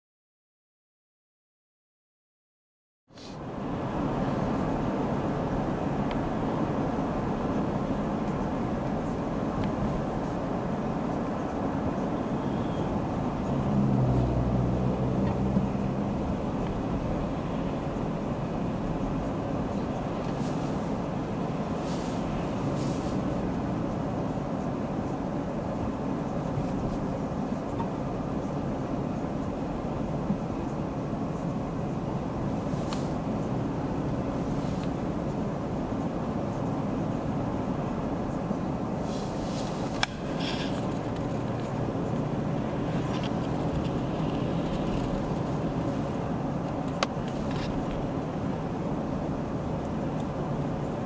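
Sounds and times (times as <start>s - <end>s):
car road and engine rumble: 3.1s - 51.0s
low engine hum: 3.2s - 51.0s.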